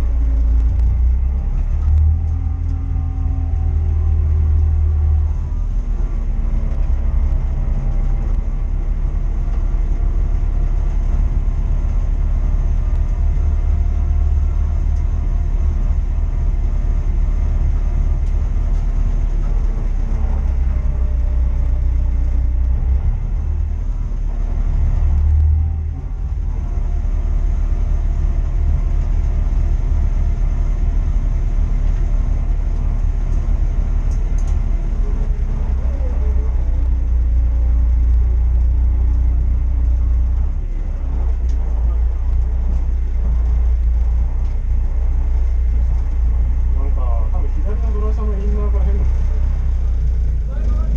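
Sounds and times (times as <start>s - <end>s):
engine low rumble: 0.0s - 50.9s.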